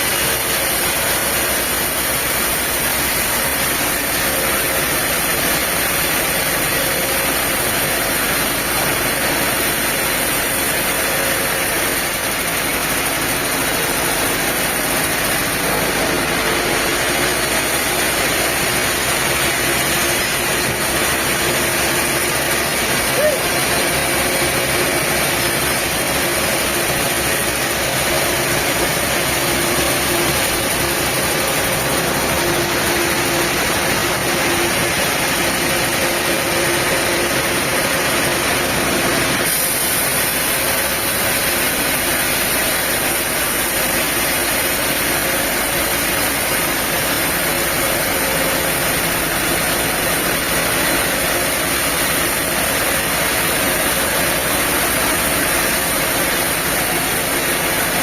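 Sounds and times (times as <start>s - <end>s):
diesel sawmill machinery running: 0.0s - 58.0s.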